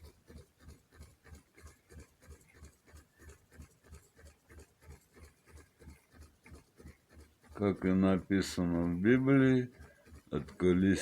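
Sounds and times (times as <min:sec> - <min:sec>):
faint rhythmic knocking: 0:00.0 - 0:11.0.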